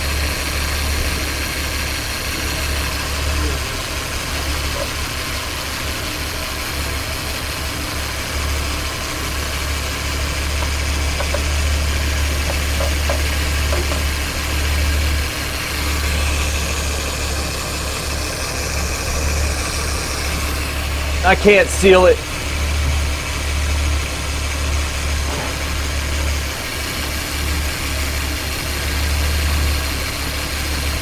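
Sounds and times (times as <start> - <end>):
car engine idling unevenly: 0.0 - 31.0.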